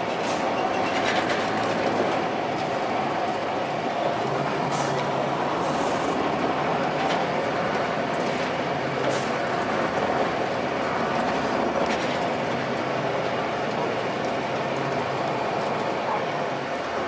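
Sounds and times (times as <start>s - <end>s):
bus diesel engine running: 0.0s - 17.0s
road noise: 0.0s - 17.0s.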